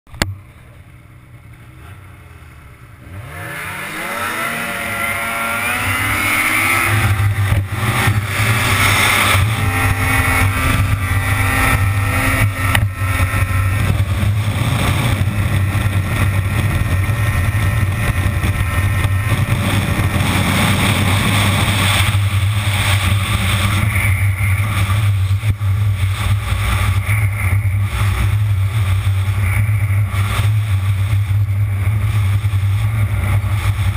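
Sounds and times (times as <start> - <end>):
snowmobile engine revving: 1.3 - 33.9.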